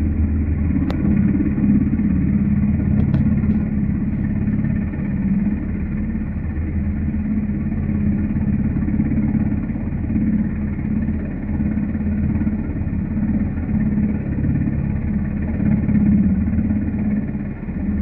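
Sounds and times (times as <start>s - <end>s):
helicopter rotor drone: 0.0s - 18.0s.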